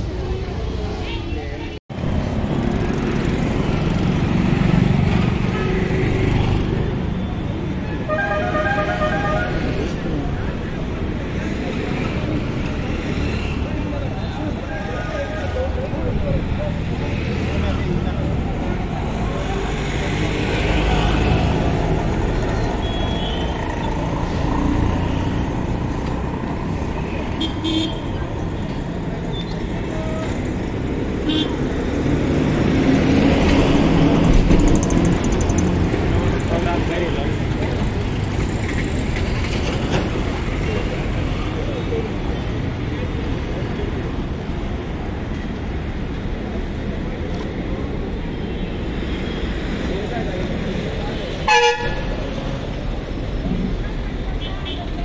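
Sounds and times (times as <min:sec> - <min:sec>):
roadside bustle: 0:00.0 - 0:55.0
traffic rumble: 0:00.0 - 0:55.0.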